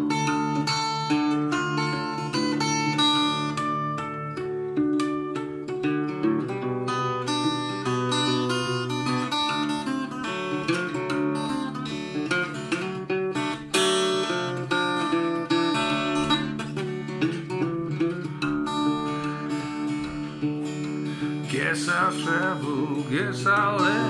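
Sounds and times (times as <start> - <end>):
acoustic guitar fingerpicked: 0.0 - 24.0.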